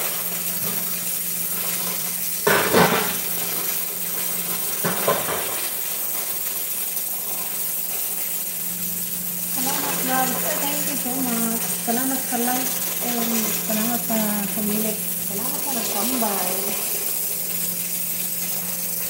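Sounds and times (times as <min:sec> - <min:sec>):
pressure cooker hissing: 0:00.0 - 0:19.0.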